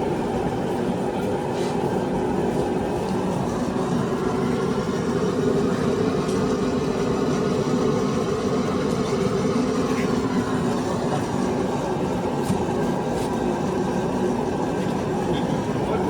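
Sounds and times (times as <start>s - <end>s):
steady mechanical drone: 0.0s - 16.0s.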